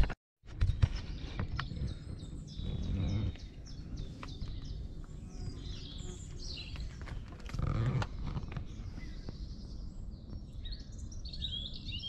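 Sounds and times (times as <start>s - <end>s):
songbirds chirping and singing: 0.6s - 12.0s.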